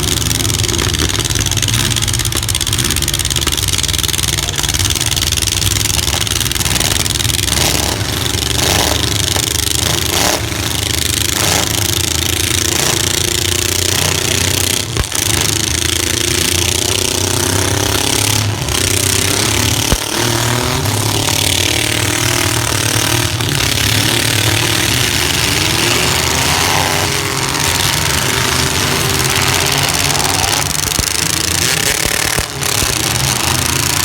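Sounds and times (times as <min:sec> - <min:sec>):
pickup truck engines revving: 0:00.0 - 0:34.0.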